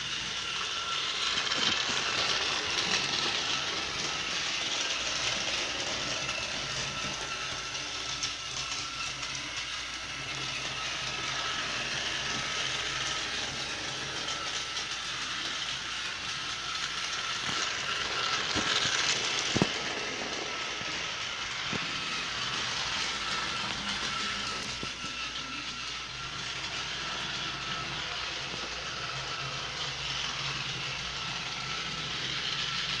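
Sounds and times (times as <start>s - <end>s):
toy train motor whirring: 0.0s - 33.0s.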